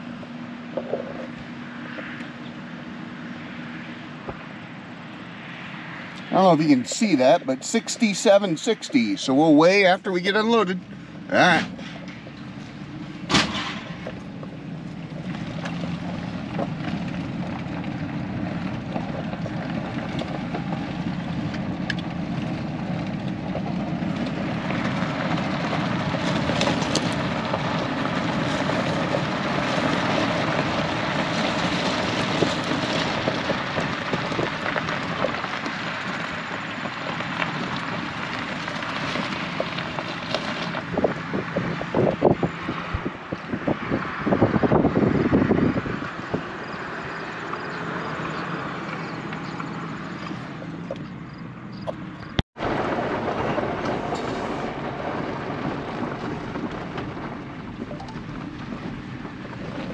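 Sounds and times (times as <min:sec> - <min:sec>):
road and wind noise: 0:00.0 - 0:59.9
truck engine hum: 0:00.0 - 0:59.9.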